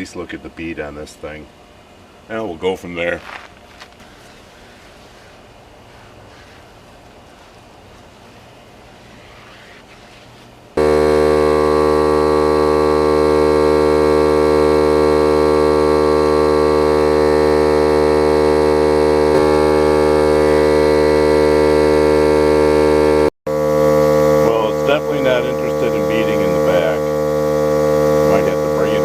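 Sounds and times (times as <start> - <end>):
air compressor buzzing hum: 3.2 - 29.0.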